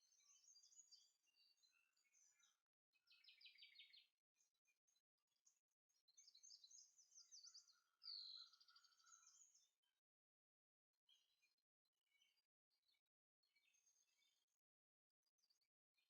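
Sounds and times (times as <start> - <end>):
birdsong chirps and trills: 0.0 - 10.1, 11.0 - 14.6, 15.3 - 16.0.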